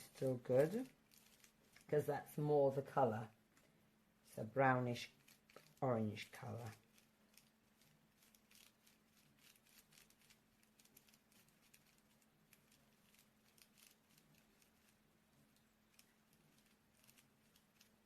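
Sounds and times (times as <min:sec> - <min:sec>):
paintbrush dabbing on bubble wrap: 0:00.0 - 0:03.3, 0:04.5 - 0:18.0.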